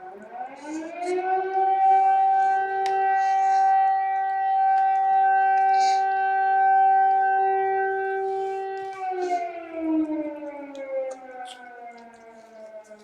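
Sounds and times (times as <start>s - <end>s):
air-raid siren: 0.0s - 13.0s.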